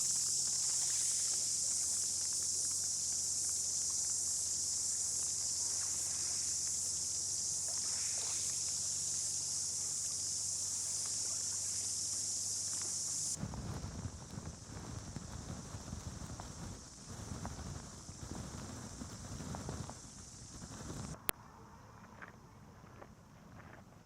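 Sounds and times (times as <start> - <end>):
insect chorus shrill drone: 0.0 - 13.4, 14.4 - 22.8
faint low hum: 0.0 - 24.0.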